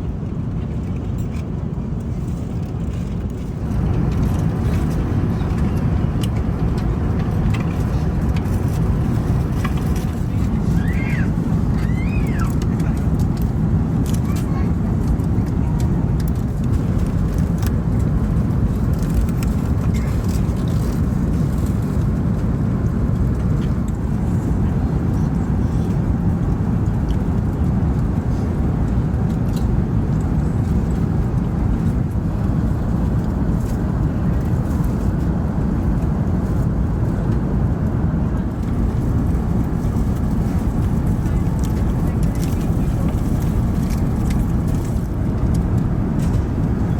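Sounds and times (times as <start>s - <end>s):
airplane cabin rumble: 0.0s - 46.9s.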